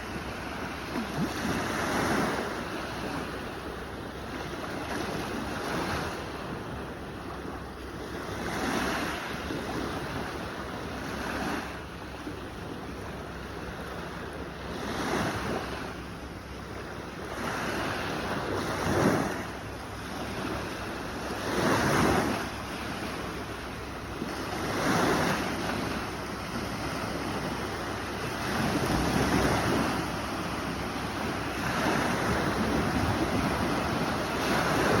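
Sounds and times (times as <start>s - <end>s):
sea waves washing onto shore: 0.0s - 35.0s.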